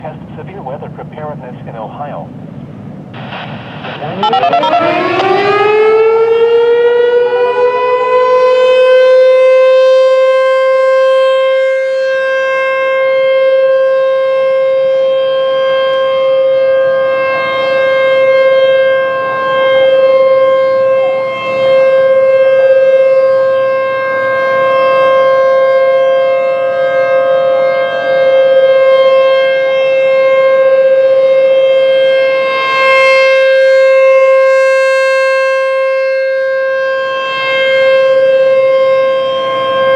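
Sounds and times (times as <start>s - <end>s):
tornado warning siren: 3.2s - 39.9s.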